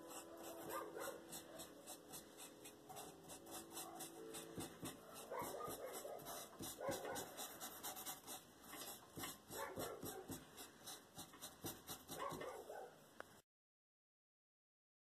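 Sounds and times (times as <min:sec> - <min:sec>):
brush scratching on canvas: 0:00.0 - 0:12.6.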